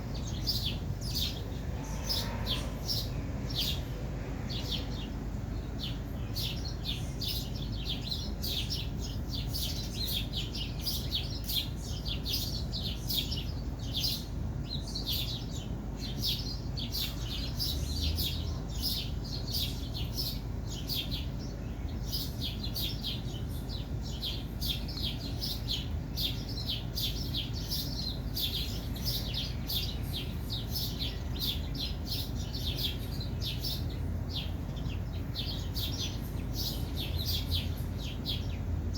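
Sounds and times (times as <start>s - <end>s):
bird chirping: 0.0s - 38.9s
low background hum: 0.0s - 38.9s.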